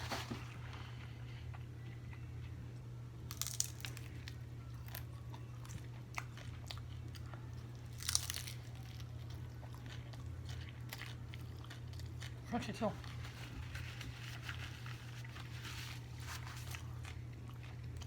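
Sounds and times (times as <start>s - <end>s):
chewing and crunching taco: 0.0s - 18.0s.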